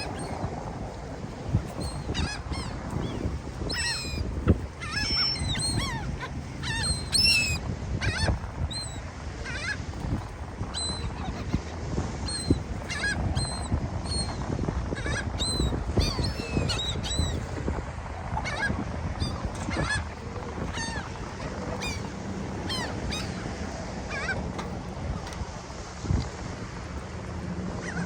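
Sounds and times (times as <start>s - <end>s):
gulls calling: 0.0s - 25.6s
wind rumble on microphone: 0.0s - 28.0s.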